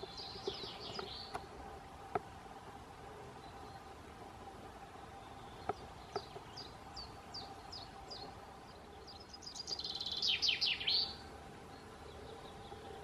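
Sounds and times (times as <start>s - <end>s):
small bird singing: 0.0s - 1.5s, 3.2s - 4.2s, 4.8s - 13.0s.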